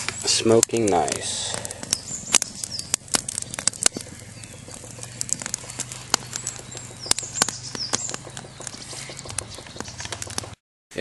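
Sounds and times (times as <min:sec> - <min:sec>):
wood fire crackling and popping: 0:00.0 - 0:10.6.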